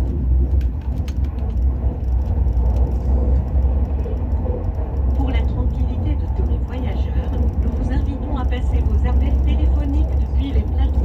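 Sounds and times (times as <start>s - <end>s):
light rattles and clicks: 0.0s - 11.0s
train rumbling at speed: 0.0s - 11.0s.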